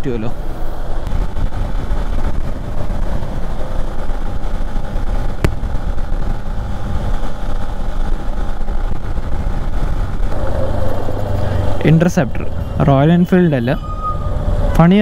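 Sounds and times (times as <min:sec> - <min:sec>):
motorcycle engine drone: 0:00.0 - 0:15.0
wind rush on microphone: 0:00.0 - 0:15.0.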